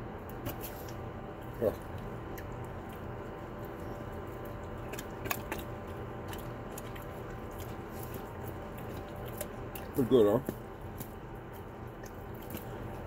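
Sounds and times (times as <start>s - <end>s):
low room hum: 0.0s - 13.0s
dog licking and chewing: 0.4s - 13.0s.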